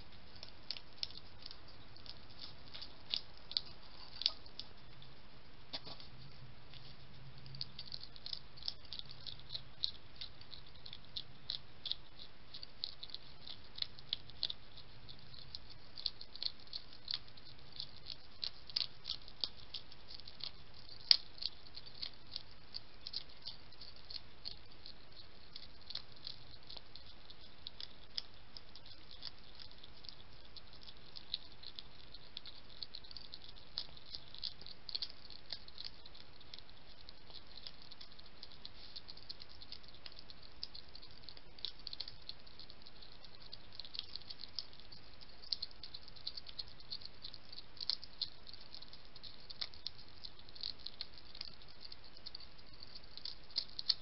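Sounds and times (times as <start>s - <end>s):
hedgehogs crunching kibble: 0.0s - 54.0s.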